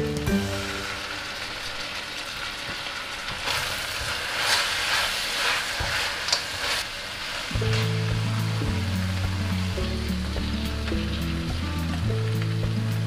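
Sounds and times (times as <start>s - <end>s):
chicken sizzling in a wok: 0.0s - 13.0s
spatula stir-frying: 0.0s - 13.0s.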